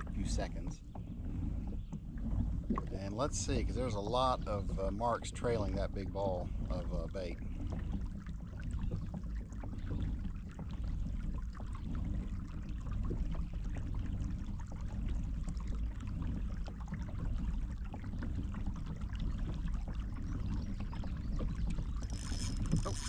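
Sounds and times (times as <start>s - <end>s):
steady low rumble: 0.0s - 23.0s
water drips: 0.0s - 23.0s
water splashing against kayak hull: 0.0s - 23.0s.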